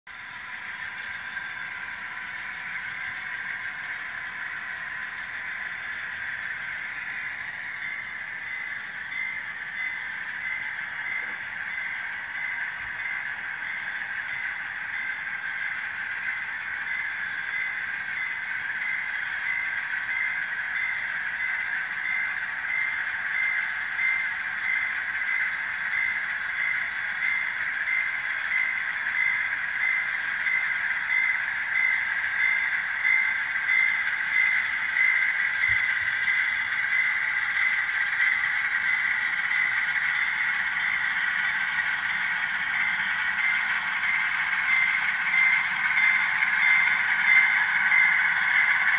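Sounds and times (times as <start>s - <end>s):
model train running on track: 0.1s - 48.9s.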